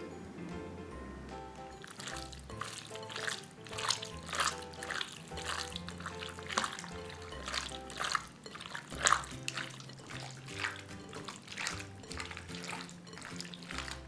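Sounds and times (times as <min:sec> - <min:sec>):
hands squelching raw chicken: 0:01.8 - 0:14.0.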